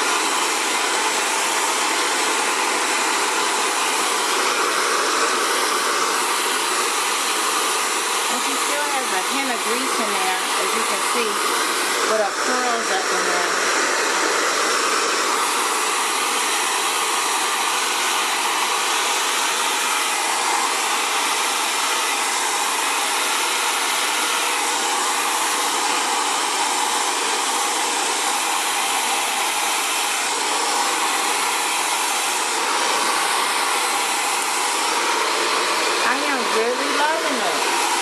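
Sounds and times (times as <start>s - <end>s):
hair dryer blowing: 0.0s - 38.0s.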